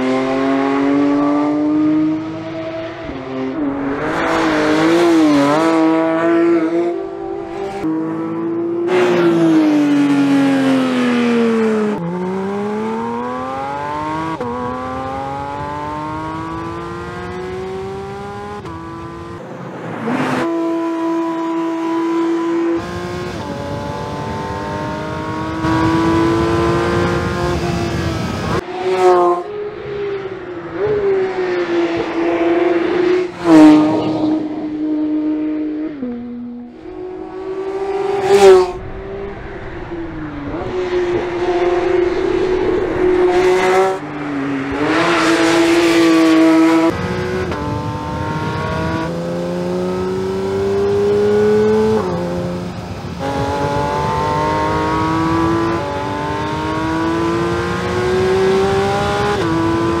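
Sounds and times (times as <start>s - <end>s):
race car engine revving: 0.0s - 29.4s, 30.2s - 60.0s.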